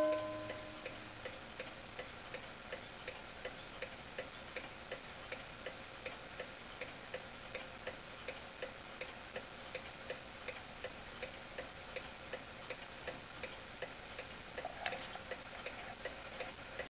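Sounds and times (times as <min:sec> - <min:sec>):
clock ticking: 0:00.0 - 0:16.9.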